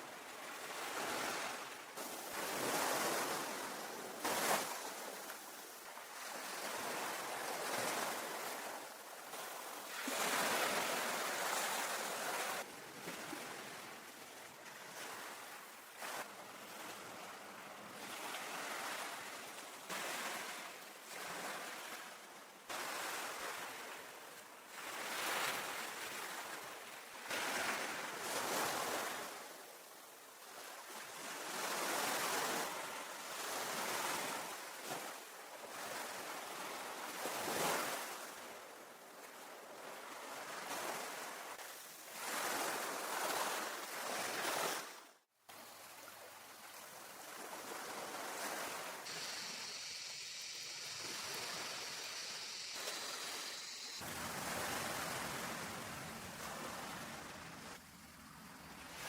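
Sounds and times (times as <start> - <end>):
sea waves washing onto beach: 0.0 - 29.8, 31.0 - 59.0.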